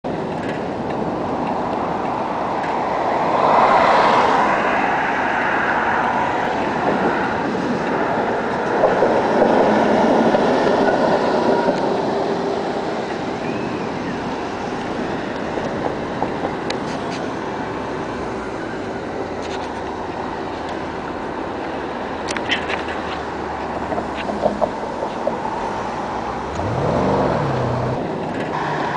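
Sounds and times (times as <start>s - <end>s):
wheels clacking over rail joints: 0.1s - 3.4s, 6.5s - 28.9s
tram wheels rumbling on rail: 0.1s - 28.9s.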